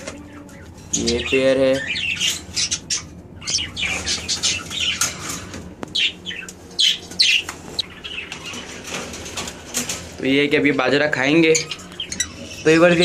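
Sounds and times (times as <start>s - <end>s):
parrots chirping and squawking: 0.0s - 13.0s.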